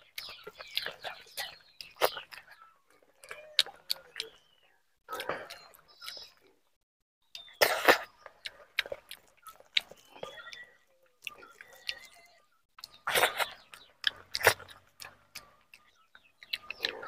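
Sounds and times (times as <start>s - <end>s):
close chewing with wet smacks: 0.0s - 4.5s, 5.1s - 6.6s, 7.3s - 17.0s.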